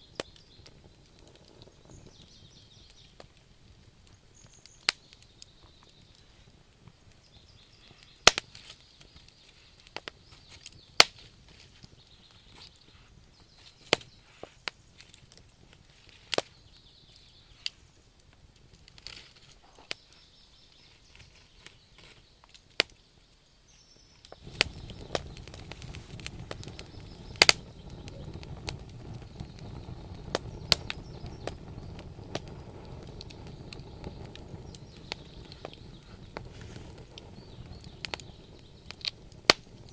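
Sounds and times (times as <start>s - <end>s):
flames rushing: 0.0s - 19.6s, 24.4s - 39.9s
wood fire crackling and popping: 0.0s - 39.9s.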